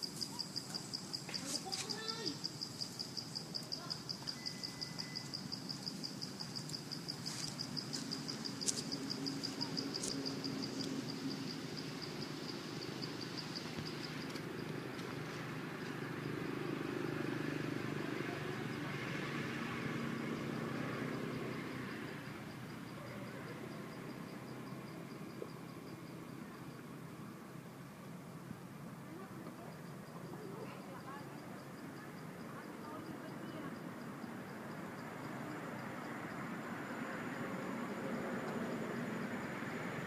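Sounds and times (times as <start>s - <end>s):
insect chirping: 0.0s - 40.0s.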